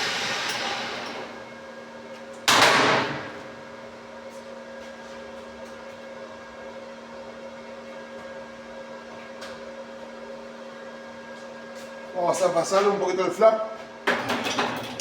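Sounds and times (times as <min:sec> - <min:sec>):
electrical hum of machinery: 0:00.0 - 0:15.0.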